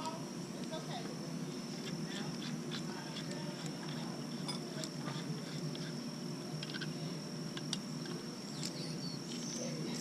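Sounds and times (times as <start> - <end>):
high-pitched whine: 0.0 - 10.0
low background hum: 0.0 - 10.0.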